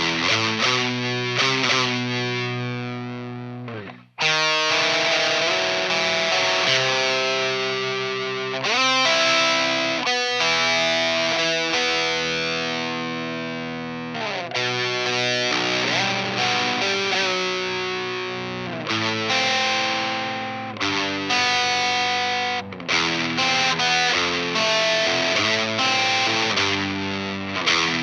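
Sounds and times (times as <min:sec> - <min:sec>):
overdriven electric guitar chords: 0:00.0 - 0:28.0.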